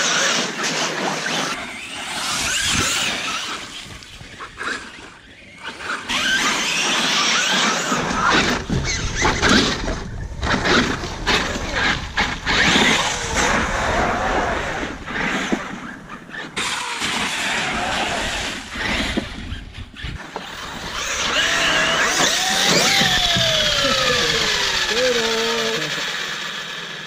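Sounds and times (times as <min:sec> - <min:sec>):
electric motor revving and whining: 0:00.0 - 0:27.0.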